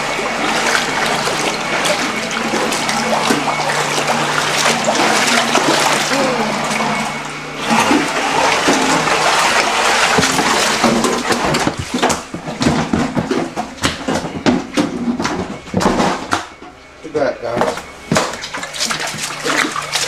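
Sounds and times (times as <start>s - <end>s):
wading through shallow water: 0.0s - 14.9s, 17.8s - 20.0s.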